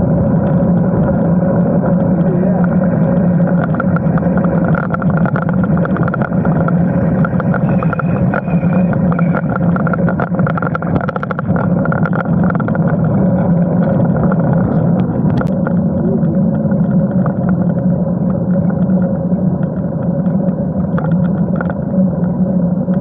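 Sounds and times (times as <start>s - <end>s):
bicycle tyres on tarmac: 0.0s - 22.1s
wind on microphone: 0.0s - 23.0s.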